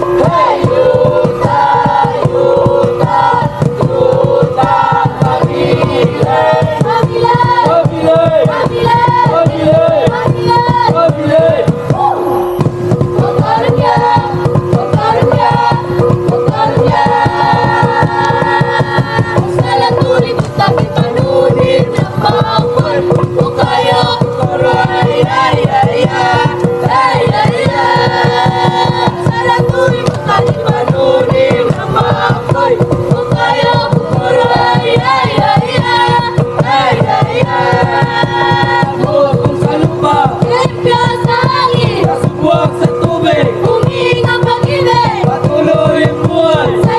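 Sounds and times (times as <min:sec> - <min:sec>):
song with singing over fast beat: 0:00.0 - 0:46.9.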